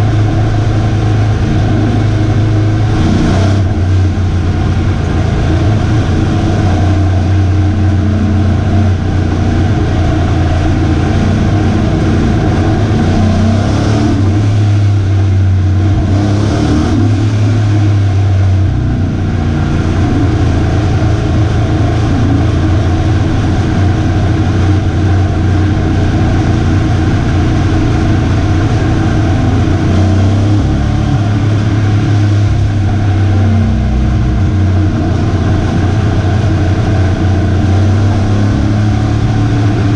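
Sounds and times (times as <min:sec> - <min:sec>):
race truck engine running loud: 0:00.0 - 0:39.9.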